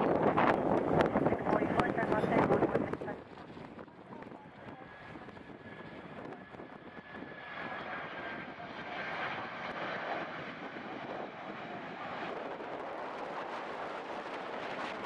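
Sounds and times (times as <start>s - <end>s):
jet airliner engines passing overhead: 0.0s - 15.0s.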